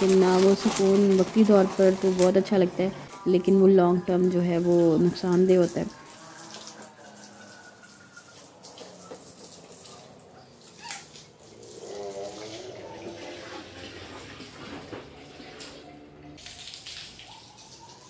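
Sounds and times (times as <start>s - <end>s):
water splashing from garden hose: 0.0s - 18.0s.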